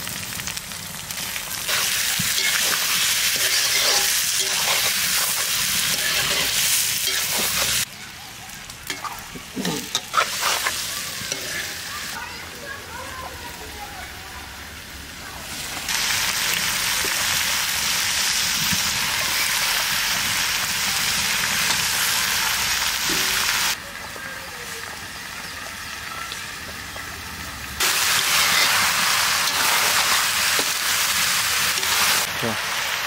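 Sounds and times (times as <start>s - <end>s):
food sizzling in a wok: 0.0s - 33.0s.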